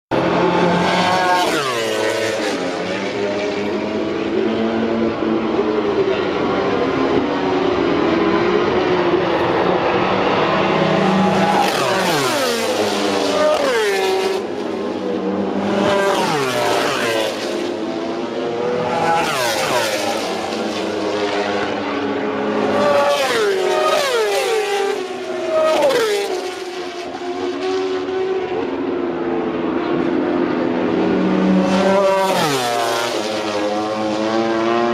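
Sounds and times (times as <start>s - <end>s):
drone of motorcycles: 0.1s - 34.9s
racing motorcycles passing: 0.1s - 34.9s.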